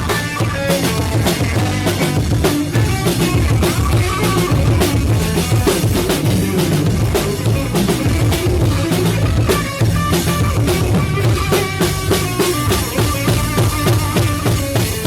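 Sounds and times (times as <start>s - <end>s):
bass: 0.0s - 15.0s
drum kit beating: 0.0s - 15.0s
electric guitar: 0.0s - 15.0s.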